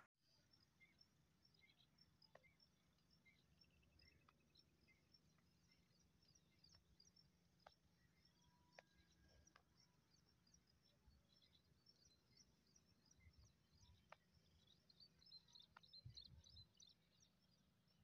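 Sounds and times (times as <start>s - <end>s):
bird chirps: 0.4s - 18.0s.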